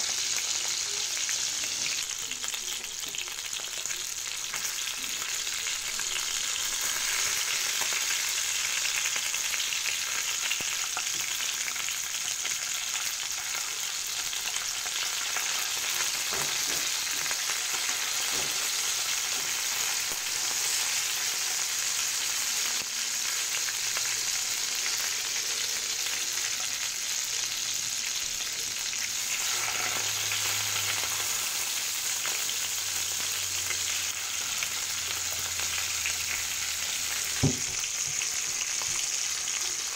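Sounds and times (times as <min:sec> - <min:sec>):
fish sizzling in frying pan: 0:00.0 - 0:39.9.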